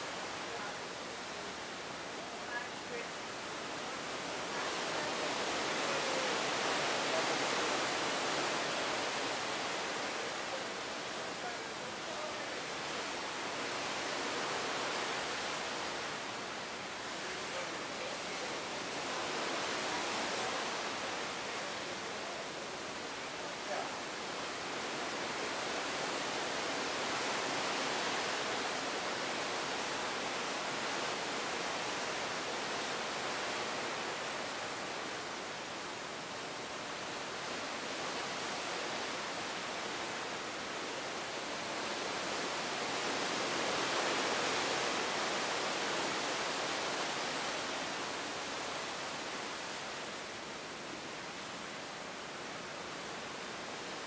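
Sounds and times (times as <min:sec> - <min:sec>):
seawater rushing along ship hull: 0:00.0 - 0:54.0.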